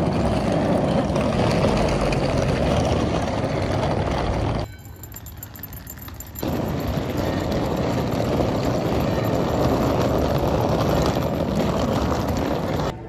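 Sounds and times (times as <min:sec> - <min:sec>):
vehicle running noise: 0:00.0 - 0:13.0.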